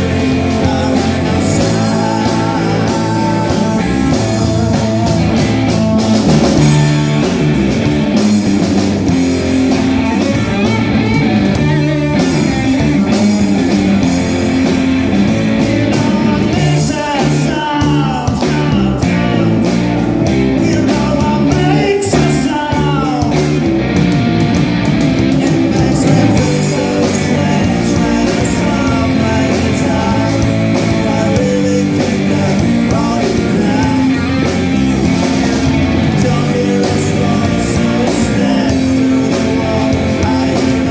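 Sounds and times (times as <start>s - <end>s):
person singing lead vocal: 0.0s - 24.5s, 25.1s - 40.9s
bass guitar: 0.0s - 40.9s
drum kit: 0.0s - 40.9s
guitar: 0.0s - 40.9s.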